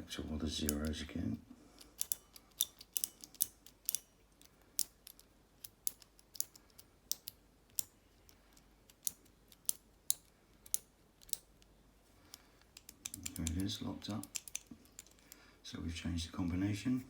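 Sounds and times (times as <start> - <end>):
padlock combination wheels clicking: 0.6 - 1.0, 1.7 - 15.4.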